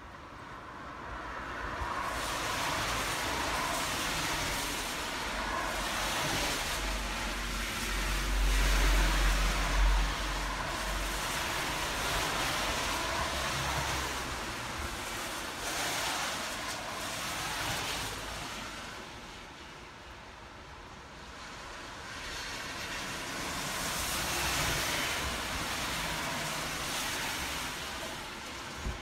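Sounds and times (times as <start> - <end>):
tyres hissing on wet road: 0.0 - 29.0.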